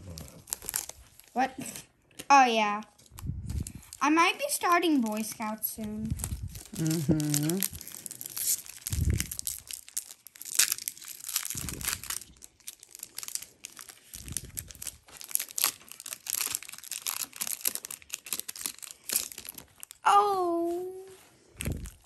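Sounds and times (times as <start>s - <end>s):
foil wrapper crinkling: 0.0s - 1.4s, 3.0s - 22.0s.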